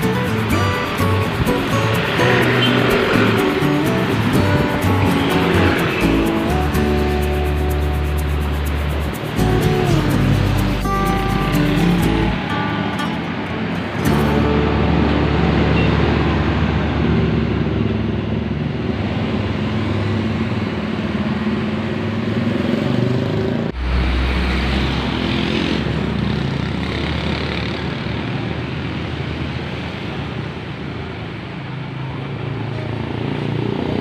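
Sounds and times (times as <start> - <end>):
bus diesel engine droning: 0.0 - 33.0
buses passing: 0.0 - 34.0
motorcycles passing: 0.0 - 34.0
street traffic: 0.0 - 34.0.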